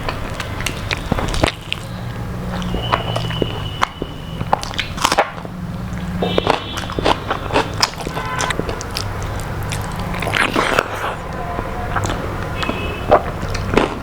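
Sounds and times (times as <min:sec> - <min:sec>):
crunchy chewing of fried food: 0:00.0 - 0:14.0.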